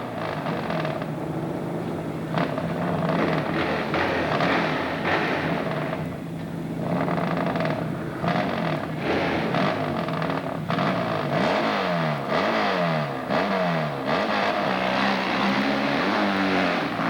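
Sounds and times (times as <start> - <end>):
motorcycle engine revving hard: 0.0 - 17.0.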